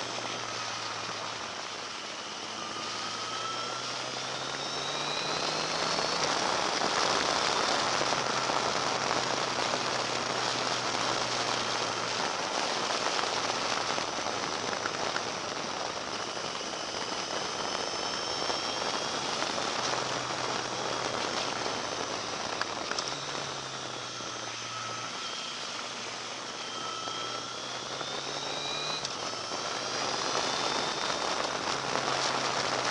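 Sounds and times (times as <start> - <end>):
motorcycle engine whine: 0.0 - 32.9.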